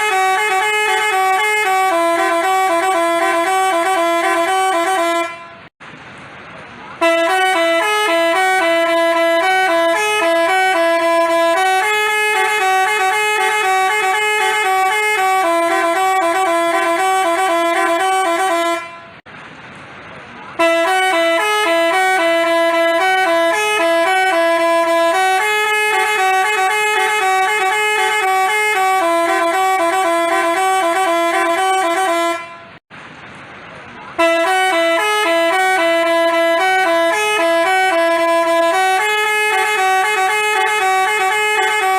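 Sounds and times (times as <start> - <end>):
musical bus horn playing a tune: 0.0 - 5.7, 7.0 - 19.3, 20.6 - 32.8, 34.2 - 41.9.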